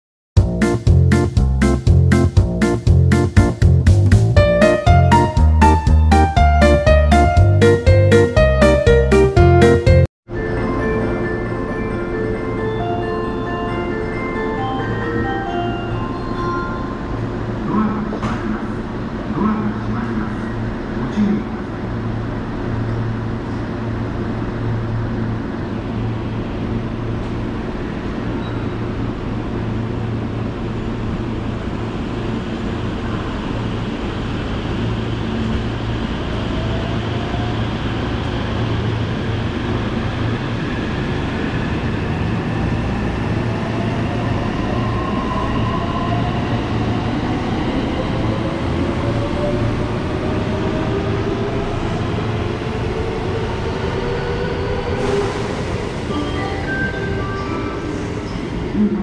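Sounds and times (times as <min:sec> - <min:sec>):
train low rumble: 0:00.4 - 0:59.0.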